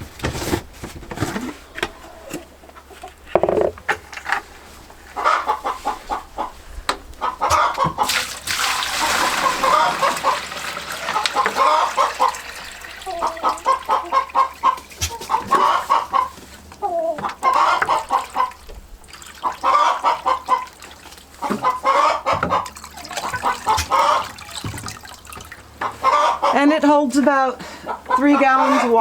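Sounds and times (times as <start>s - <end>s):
chickens clucking: 1.6s - 29.0s.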